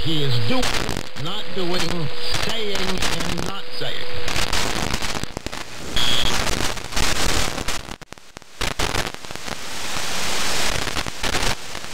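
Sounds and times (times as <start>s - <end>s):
radio static hiss: 0.0s - 11.9s
static crackles: 0.0s - 11.9s.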